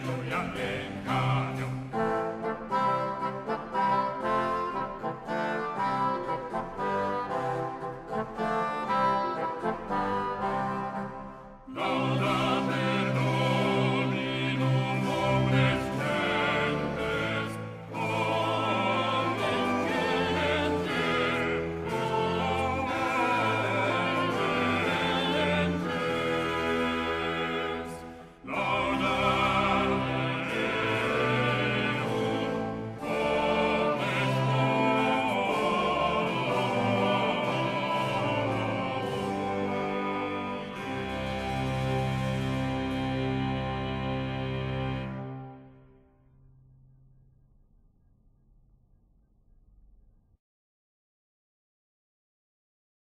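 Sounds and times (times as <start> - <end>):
early music ensemble voices and instruments: 0.0 - 45.7.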